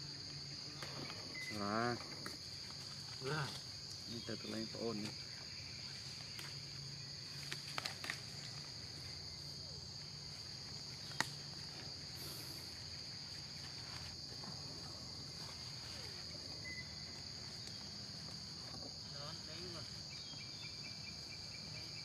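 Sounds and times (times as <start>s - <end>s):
insects buzzing trill: 0.0s - 22.0s.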